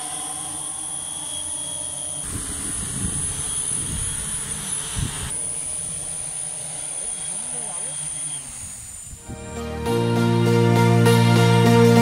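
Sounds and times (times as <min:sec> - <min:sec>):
drone motors high whine: 0:00.0 - 0:10.0.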